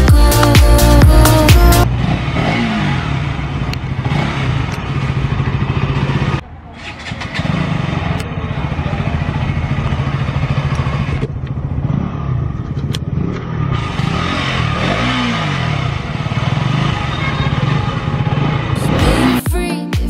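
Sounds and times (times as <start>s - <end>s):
motorcycle engine idling: 0.0s - 19.4s.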